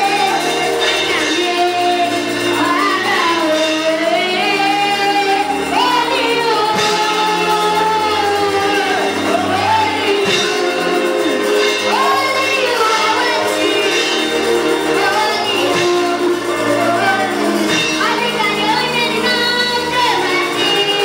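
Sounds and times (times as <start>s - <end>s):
electronic keyboard accompaniment: 0.0s - 21.0s
girl singing gospel song: 0.0s - 21.0s.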